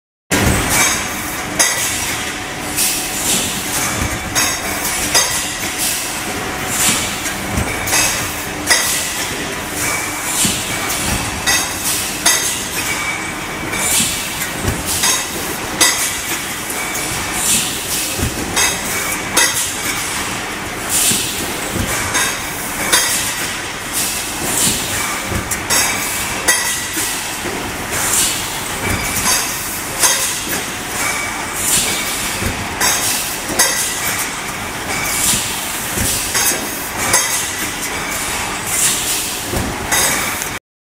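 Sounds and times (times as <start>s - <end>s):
sharp machine clack: 0.3s - 40.6s
machine mechanical clatter: 0.4s - 40.6s
plastic cups clinking on rollers: 3.3s - 20.3s, 24.4s - 40.6s.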